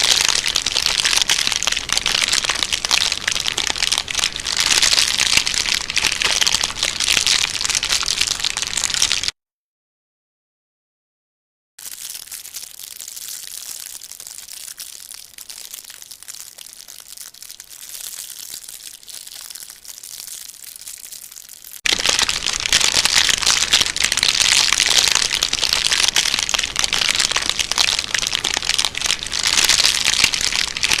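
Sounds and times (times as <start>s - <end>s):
material being crumpled: 0.0s - 9.4s, 11.8s - 31.0s.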